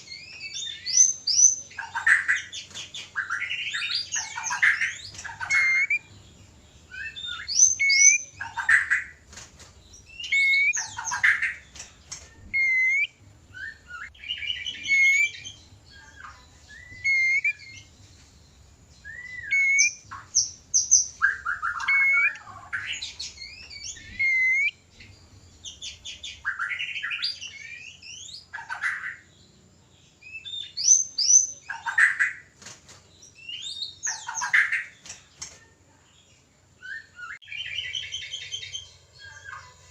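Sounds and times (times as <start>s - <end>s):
songbird whistles and chatters: 0.0s - 6.1s, 6.8s - 9.2s, 10.0s - 17.9s, 19.0s - 29.3s, 30.2s - 32.5s, 36.8s - 39.9s.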